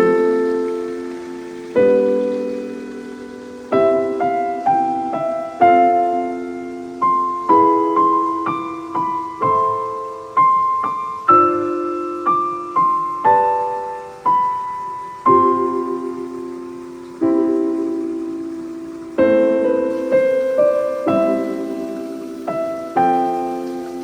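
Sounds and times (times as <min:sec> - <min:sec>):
gentle piano piece: 0:00.0 - 0:24.0.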